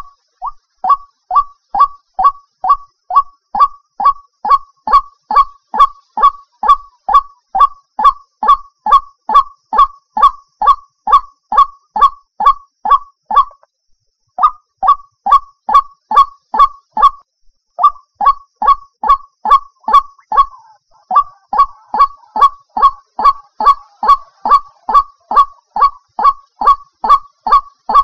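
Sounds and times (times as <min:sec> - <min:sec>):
waterhen honking call: 0:00.0 - 0:13.6, 0:17.8 - 0:28.0.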